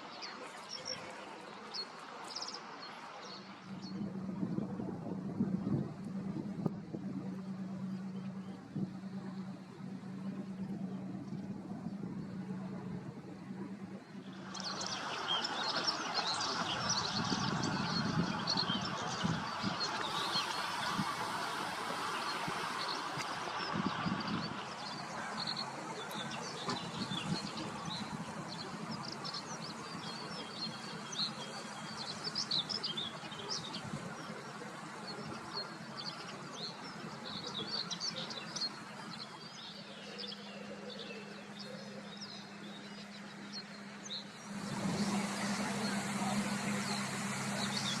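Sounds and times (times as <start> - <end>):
low engine hum: 3.2 - 48.0.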